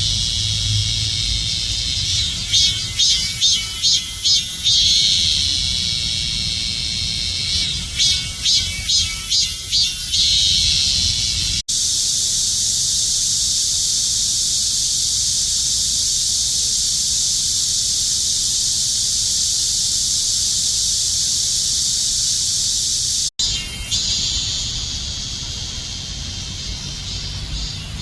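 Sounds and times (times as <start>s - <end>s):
cicadas buzzing: 0.0s - 28.0s.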